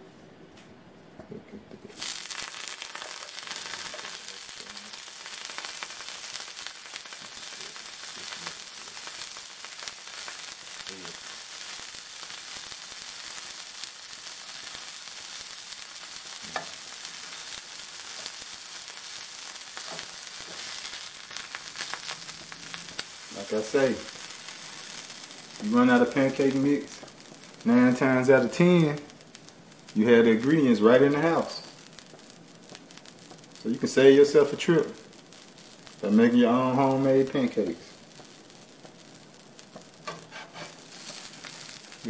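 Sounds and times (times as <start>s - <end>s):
pancakes sizzling in pan: 2.0s - 42.0s.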